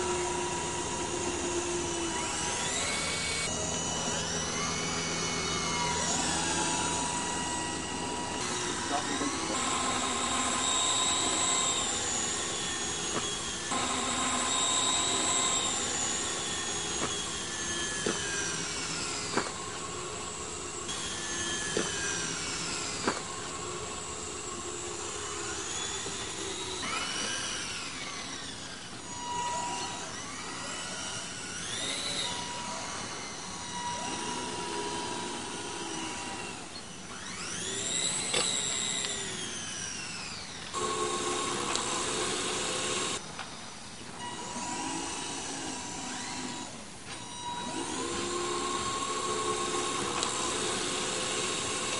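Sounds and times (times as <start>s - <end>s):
high-pitched motor whining: 0.0s - 43.2s, 44.0s - 51.9s.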